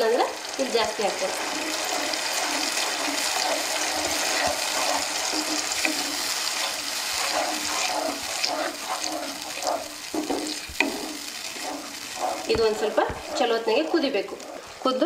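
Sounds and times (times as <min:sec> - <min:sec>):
sauce sizzling: 0:00.0 - 0:15.0
spatula stirring sauce: 0:00.0 - 0:15.0.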